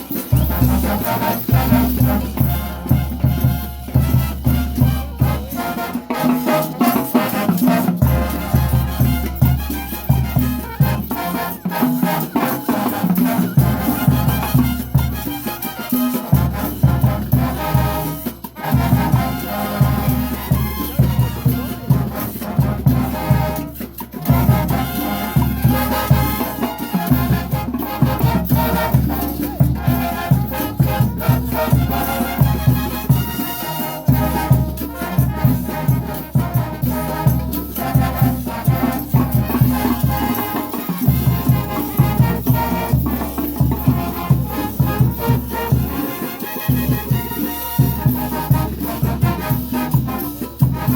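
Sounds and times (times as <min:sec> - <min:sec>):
brass band playing: 0:00.0 - 0:50.9
shaken percussion: 0:00.0 - 0:50.9.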